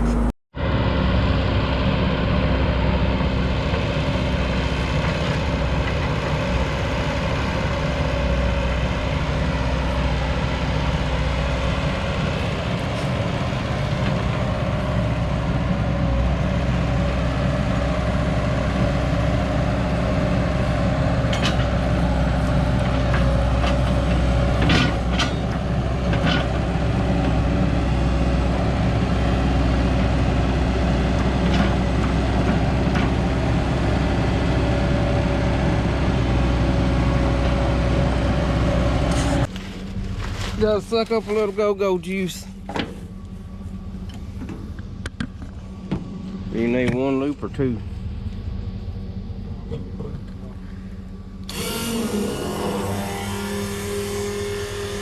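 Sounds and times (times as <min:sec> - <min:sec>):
excavator diesel engine running: 0:00.0 - 0:51.7.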